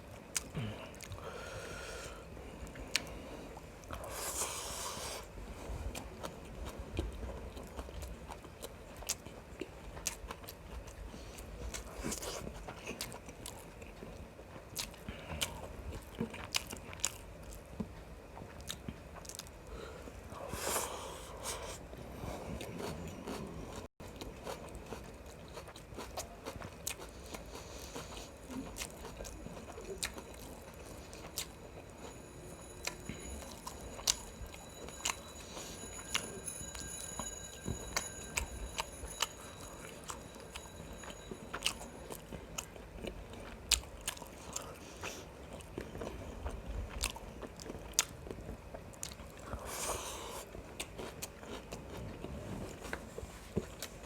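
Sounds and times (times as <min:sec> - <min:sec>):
person chewing food: 0:05.9 - 0:54.0.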